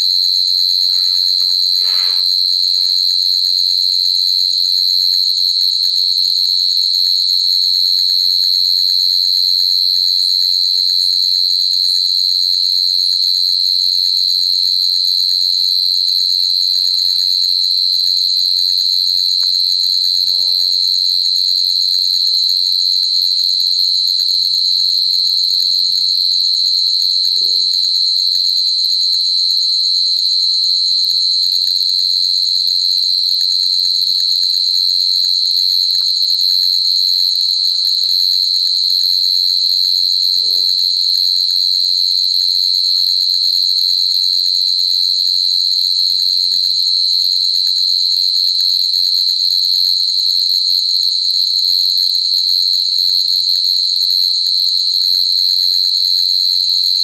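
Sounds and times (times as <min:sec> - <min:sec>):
crickets trilling: 0:00.0 - 0:51.8.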